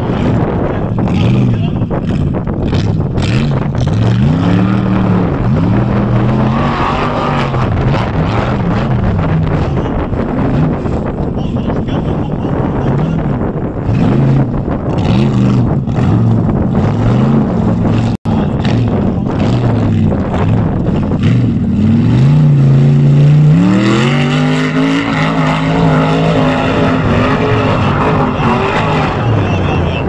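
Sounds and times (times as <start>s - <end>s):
buggy engine revving: 0.0s - 30.0s.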